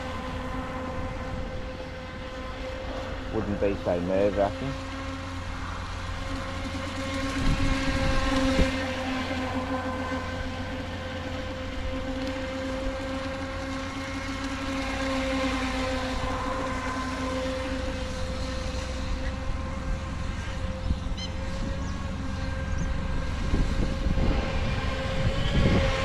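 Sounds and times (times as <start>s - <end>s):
rc boat electric motor whine: 0.0s - 26.0s.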